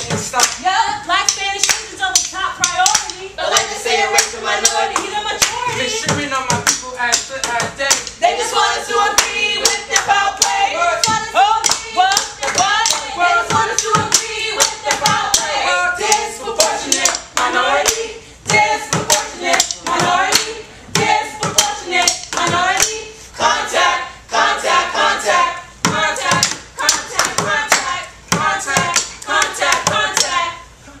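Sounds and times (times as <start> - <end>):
drumsticks beating plastic buckets: 1.2 - 8.2, 9.1 - 23.0, 25.8 - 30.4.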